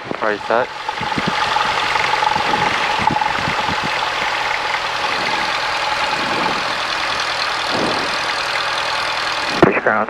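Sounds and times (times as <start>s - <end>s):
thin steady tone: 0.0s - 9.7s
aircraft piston engine droning: 0.0s - 10.0s.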